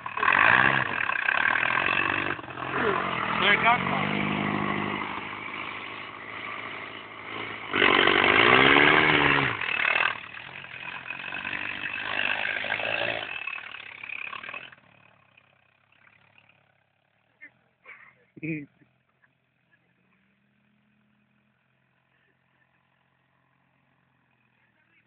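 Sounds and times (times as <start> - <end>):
buggy engine revving: 0.0 - 25.0.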